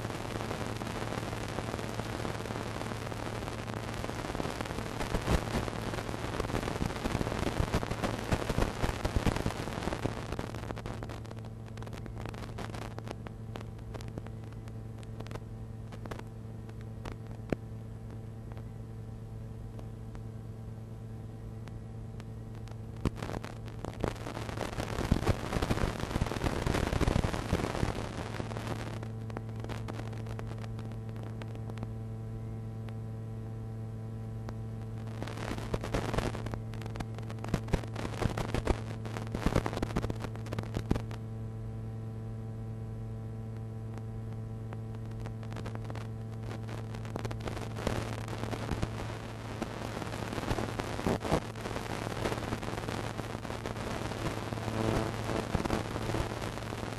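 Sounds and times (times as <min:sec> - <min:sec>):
crackling static: 0:00.0 - 0:56.9
steady electrical buzz: 0:00.0 - 0:56.9.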